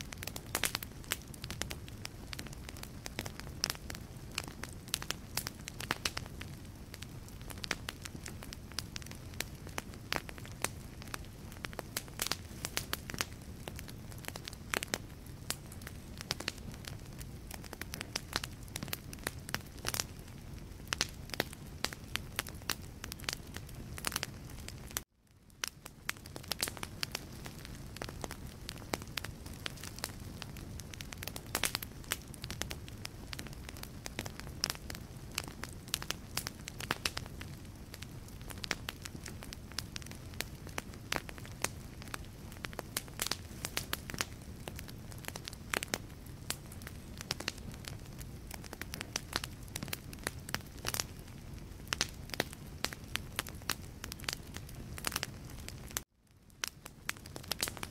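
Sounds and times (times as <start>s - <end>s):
low rumble of flames: 0.0s - 57.9s
fireplace logs crackling: 0.1s - 57.9s.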